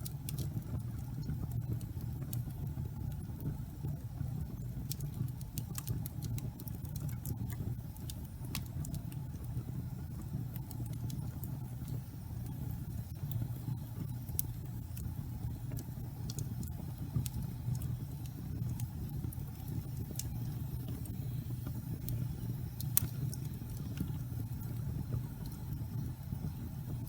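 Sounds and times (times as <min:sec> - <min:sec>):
fire rumbling in fireplace: 0:00.0 - 0:27.0
logs crackling and popping: 0:00.0 - 0:27.0.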